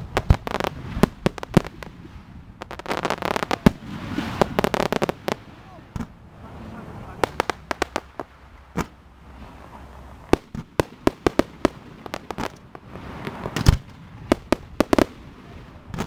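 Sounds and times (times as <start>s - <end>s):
fireworks bursting with sharp bangs: 0.0s - 6.2s, 7.0s - 16.0s.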